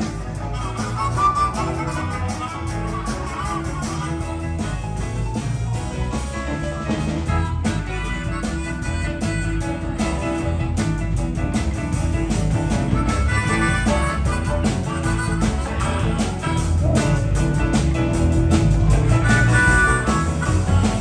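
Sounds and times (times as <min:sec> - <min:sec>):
blues-rock band playing: 0:00.0 - 0:21.0
harmonica: 0:00.0 - 0:21.0.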